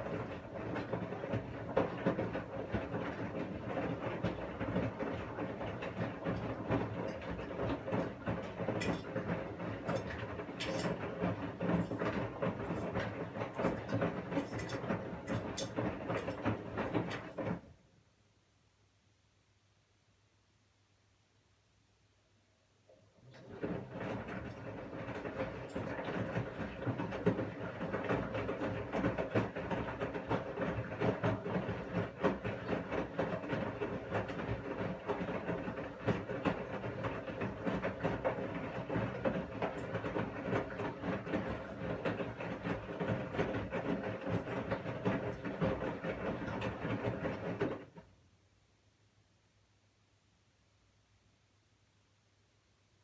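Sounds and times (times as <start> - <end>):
washing machine running: 0.0 - 17.9, 23.2 - 48.1.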